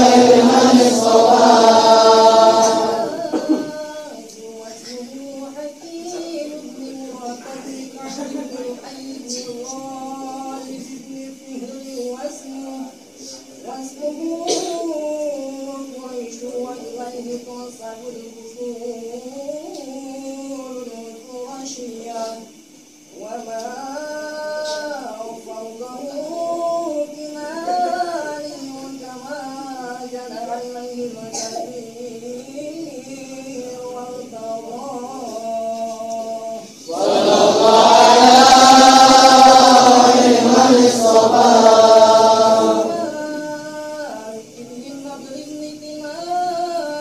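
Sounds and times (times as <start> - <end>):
man chanting melodic recitation: 2.9 - 22.6, 23.2 - 41.6, 42.2 - 47.0.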